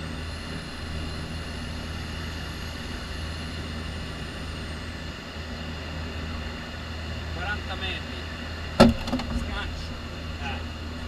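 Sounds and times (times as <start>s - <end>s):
propeller engine drone: 0.0s - 11.0s.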